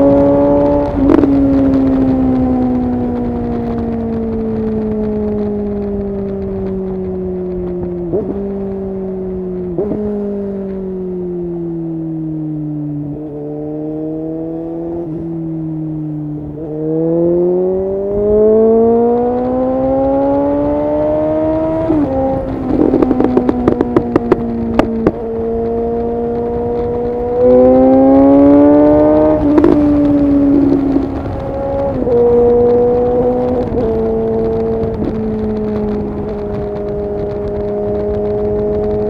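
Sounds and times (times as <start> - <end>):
exhaust pops and crackles: 0.0 - 11.1, 17.8 - 39.0
motorcycle engine revving: 0.0 - 39.0.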